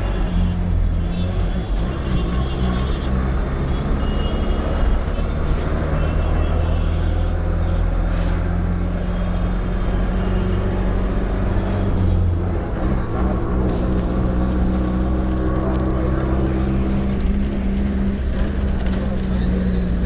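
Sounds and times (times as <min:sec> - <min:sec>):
bus engine drone: 0:00.0 - 0:20.0
road rumble: 0:00.0 - 0:20.0.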